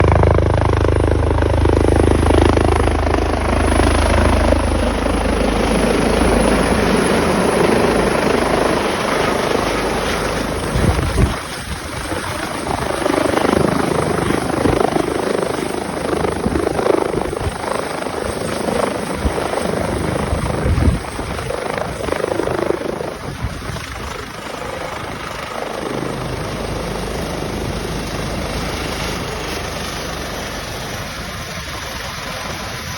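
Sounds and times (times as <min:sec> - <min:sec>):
helicopter rotor and engines: 0:00.0 - 0:32.9
high turbine whine: 0:00.0 - 0:32.9.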